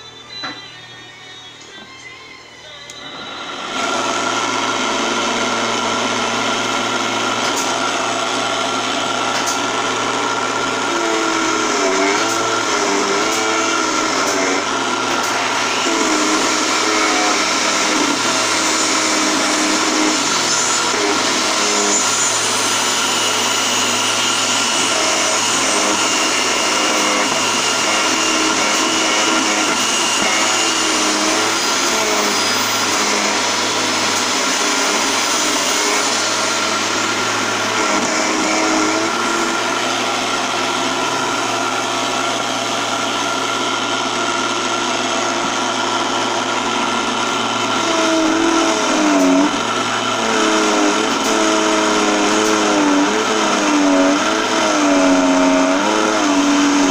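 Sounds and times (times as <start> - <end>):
lathe motor humming and whining: 0.0 - 56.9
tool cutting spinning wood: 3.5 - 56.9.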